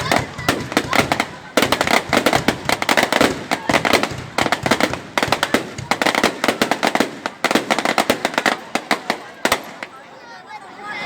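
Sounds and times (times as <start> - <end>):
fireworks cracking and banging: 0.0 - 10.1.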